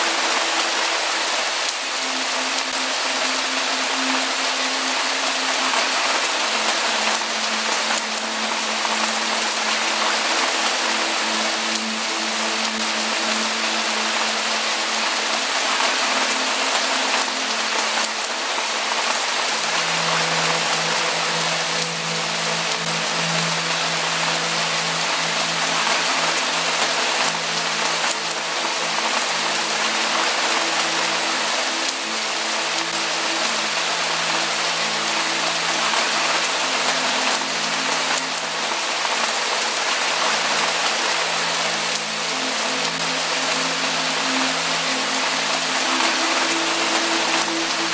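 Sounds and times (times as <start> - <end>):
dense rainfall hissing: 0.0 - 47.9
low musical tones: 0.0 - 47.9.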